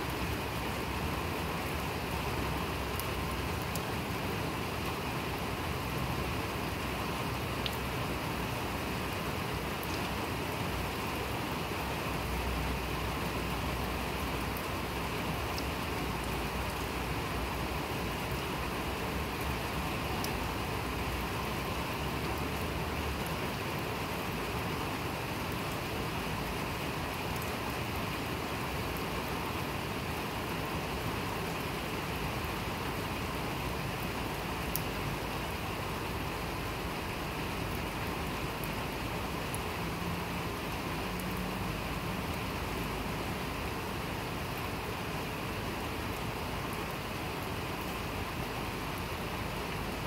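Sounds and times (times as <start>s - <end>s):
sharp ticks of raindrops: 0.0s - 50.0s
steady rain falling: 0.0s - 50.0s.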